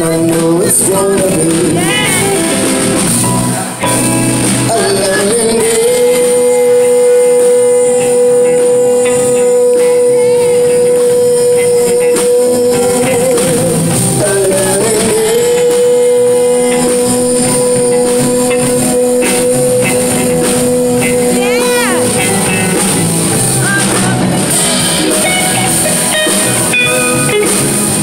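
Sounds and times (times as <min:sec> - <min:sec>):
live rock band playing: 0:00.0 - 0:28.0
man singing: 0:00.0 - 0:28.0.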